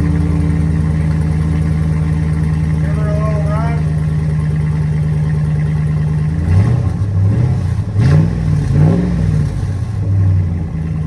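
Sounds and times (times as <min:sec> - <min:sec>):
loud truck engine revving: 0:00.0 - 0:11.0.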